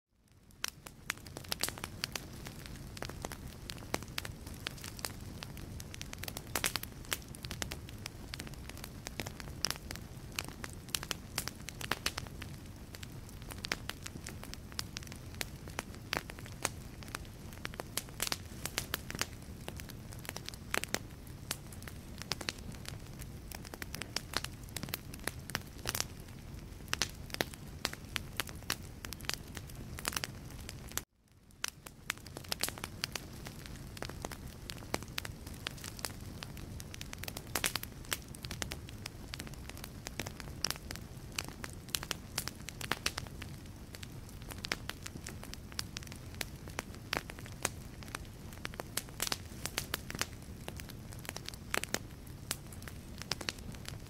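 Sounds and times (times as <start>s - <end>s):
wood fire crackling and popping: 0.2s - 54.0s.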